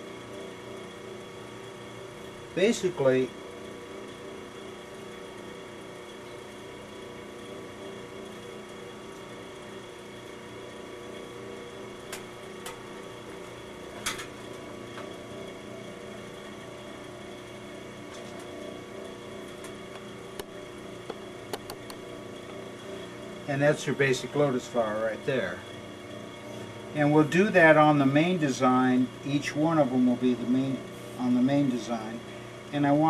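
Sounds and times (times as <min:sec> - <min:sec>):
layered electrical hum: 0:00.0 - 0:33.0.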